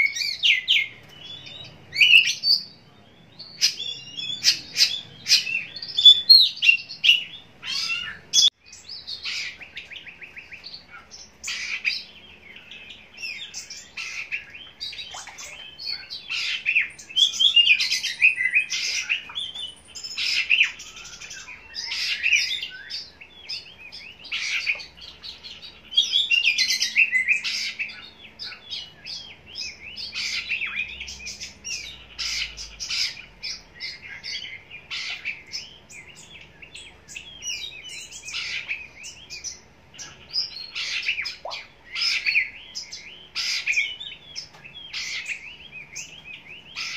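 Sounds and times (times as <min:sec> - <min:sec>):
bird singing whistles and trills: 0:00.0 - 0:46.9.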